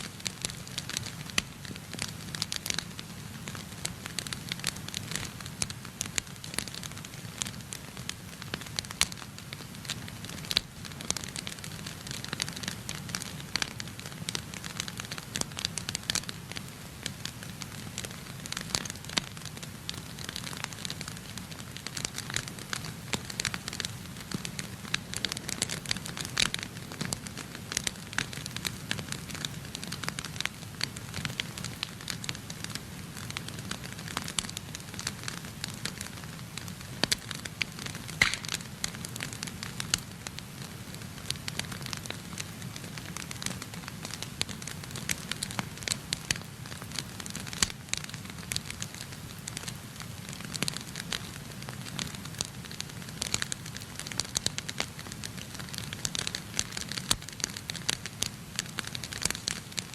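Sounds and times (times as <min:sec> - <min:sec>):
low rumble of flame: 0:00.0 - 0:59.9
wood fire crackling: 0:00.0 - 0:59.9.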